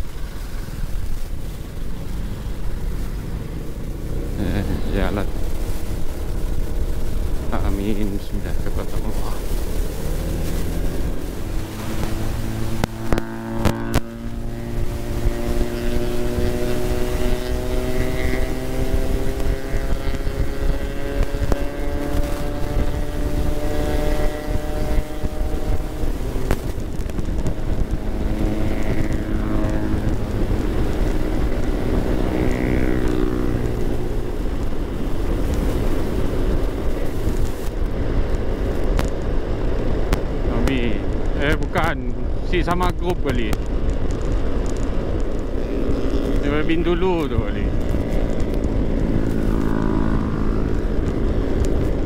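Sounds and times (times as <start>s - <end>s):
scooter engine running: 0.0s - 42.4s, 43.4s - 52.0s.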